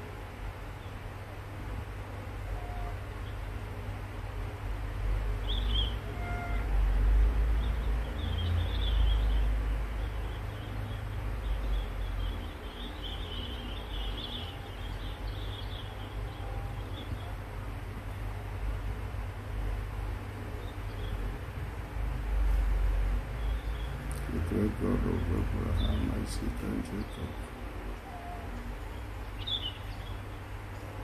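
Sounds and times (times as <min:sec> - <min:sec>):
small birds chirping: 0:05.2 - 0:31.0.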